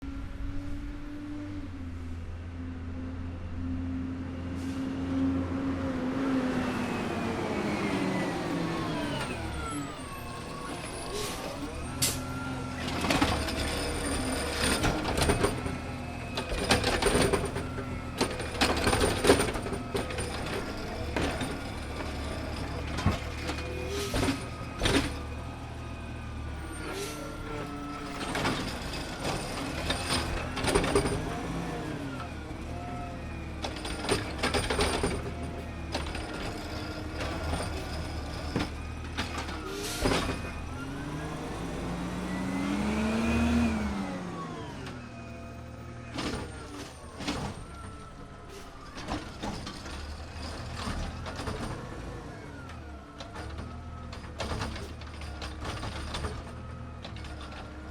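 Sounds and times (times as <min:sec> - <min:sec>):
diesel engine running: 0:00.0 - 0:57.9
hydraulic whine: 0:06.6 - 0:57.8.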